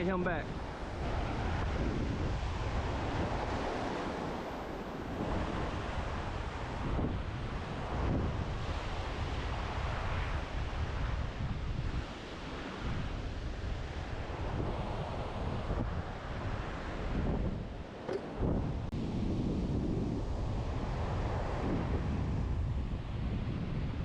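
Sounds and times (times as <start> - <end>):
wind buffeting the microphone: 0.0 - 24.0.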